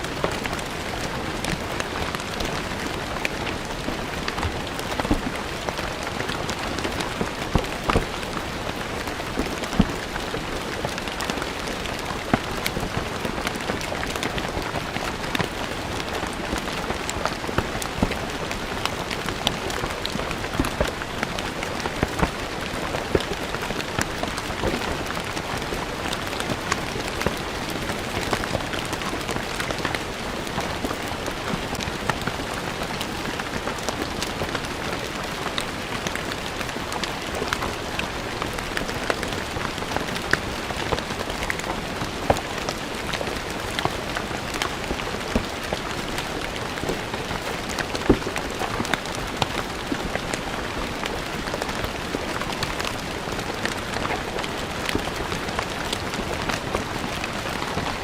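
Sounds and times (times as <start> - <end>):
rain falling on stone paving: 0.0 - 58.0.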